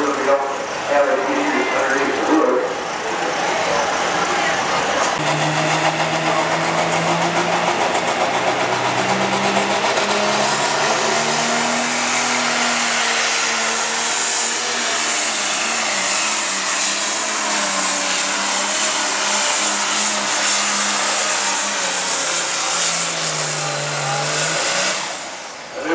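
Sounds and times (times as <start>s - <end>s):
diesel engine at full load: 0.0s - 25.9s.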